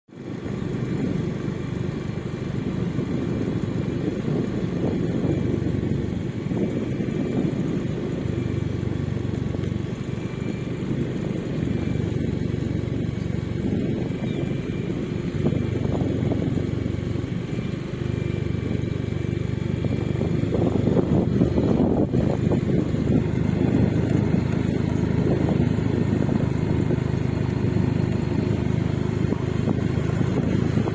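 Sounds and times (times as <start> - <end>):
motorcycle engine running: 0.1 - 30.9.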